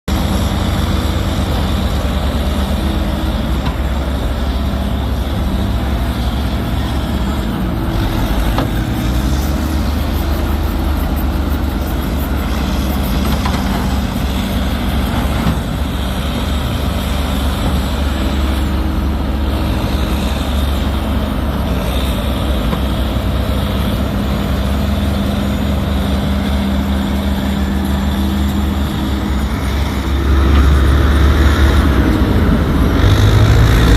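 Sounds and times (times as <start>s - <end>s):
digger engine running: 0.1s - 33.9s.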